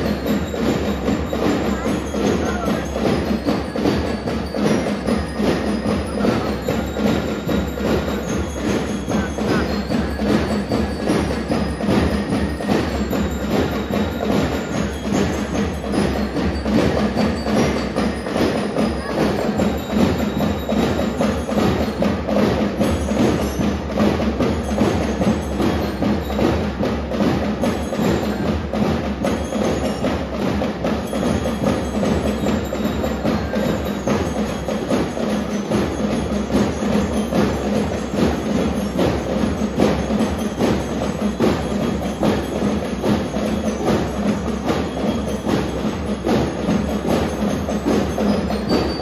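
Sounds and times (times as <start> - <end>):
bell lyres ringing a tune: 0.0 - 49.0
steady drum beat: 0.0 - 49.0.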